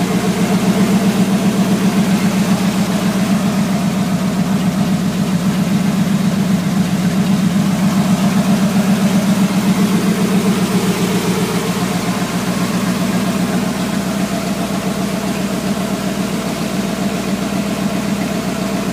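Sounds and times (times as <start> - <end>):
truck engine idling: 0.0 - 18.9.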